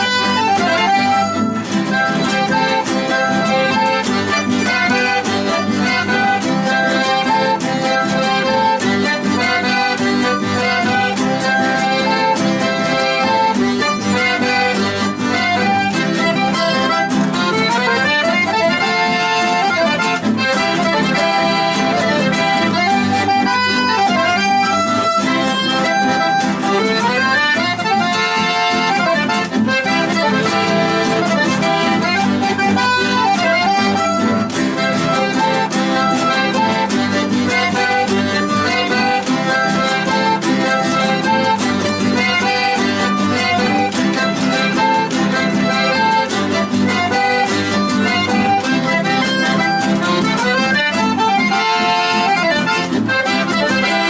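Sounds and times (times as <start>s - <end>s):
accordion melody: 0.0s - 54.0s
guitar accompaniment: 0.0s - 54.0s.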